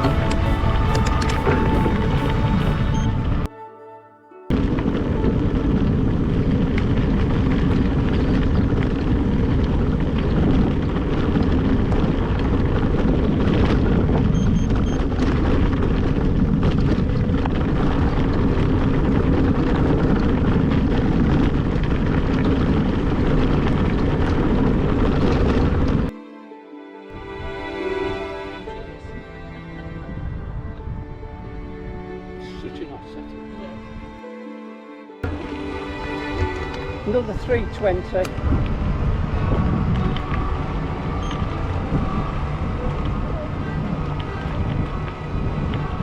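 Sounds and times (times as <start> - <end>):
wind rumble on microphone: 4.5 - 26.1, 27.4 - 34.2, 35.2 - 46.0.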